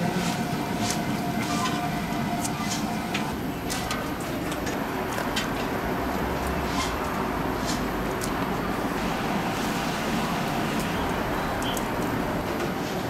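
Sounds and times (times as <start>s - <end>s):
rumbling kitchen background noise: 0.0s - 13.0s.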